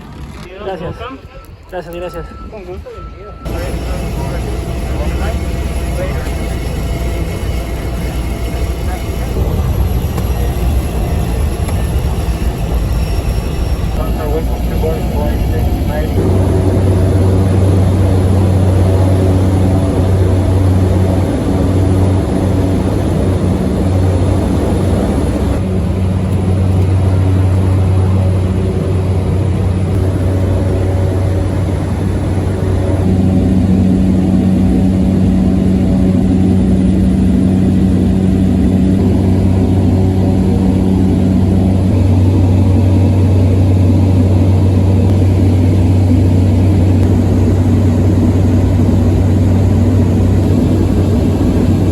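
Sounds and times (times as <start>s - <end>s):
propeller plane engines droning: 0.0s - 51.9s.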